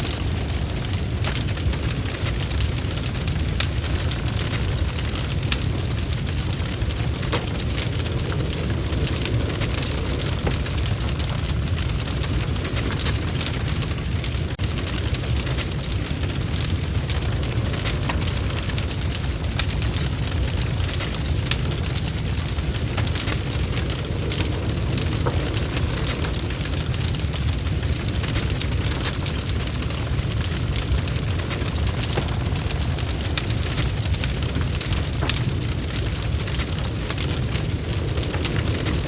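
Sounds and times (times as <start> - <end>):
bonfire crackling and popping: 0.0 - 39.0
low rumble of burning: 0.0 - 39.0.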